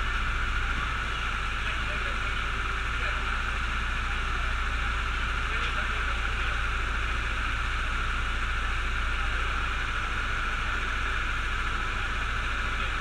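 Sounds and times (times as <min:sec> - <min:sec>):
go-kart engines idling: 0:00.0 - 0:13.0.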